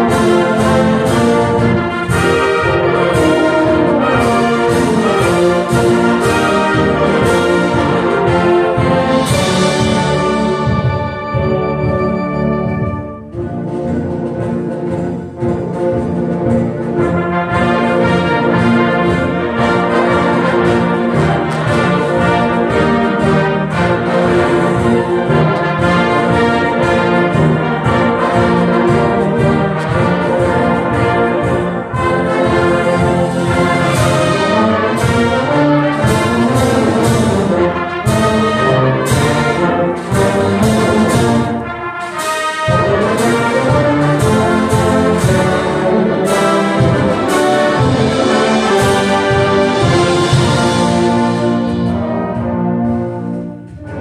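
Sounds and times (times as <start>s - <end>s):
concert band playing: 0.0s - 54.0s.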